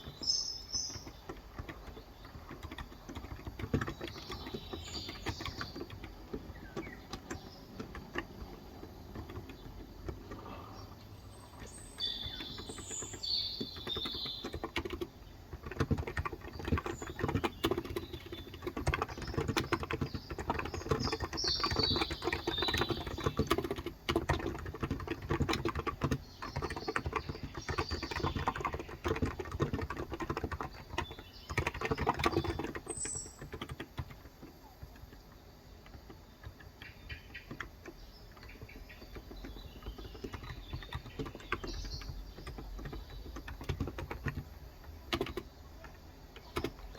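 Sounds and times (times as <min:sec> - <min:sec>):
birds chirping: 0:00.0 - 0:46.9
soft keyboard typing: 0:00.0 - 0:46.9.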